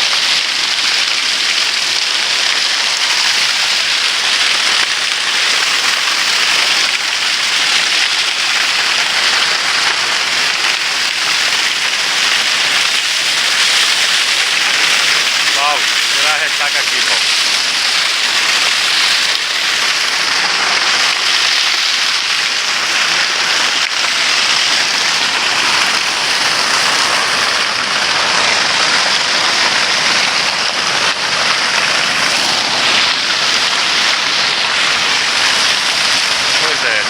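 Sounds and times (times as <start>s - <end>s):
loud rushing water: 0.0s - 37.0s.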